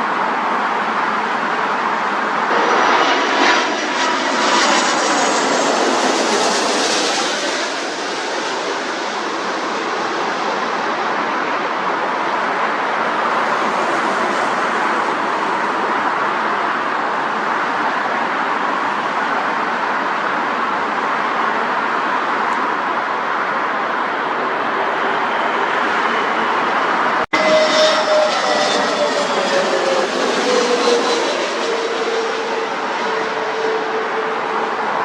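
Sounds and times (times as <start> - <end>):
jet engines passing: 0.0 - 35.0.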